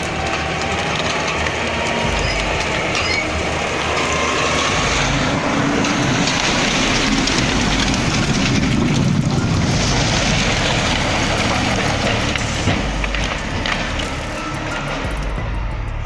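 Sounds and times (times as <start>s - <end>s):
dense rattling and clatter: 0.0s - 16.0s
heavy machine running: 0.0s - 16.0s.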